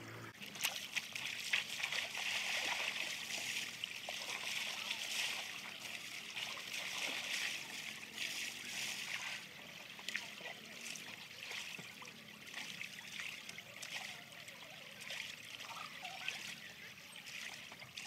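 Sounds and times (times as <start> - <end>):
shallow river running over stones: 0.0 - 18.0
water splashing from wading: 0.0 - 18.0
water trickling: 0.4 - 18.0.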